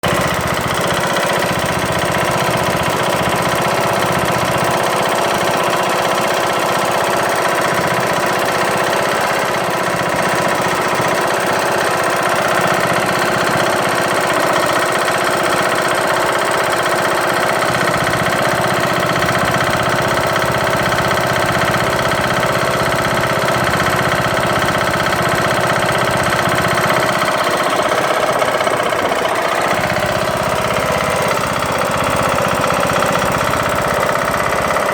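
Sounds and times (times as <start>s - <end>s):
lawn tractor engine knocking: 0.0s - 34.9s.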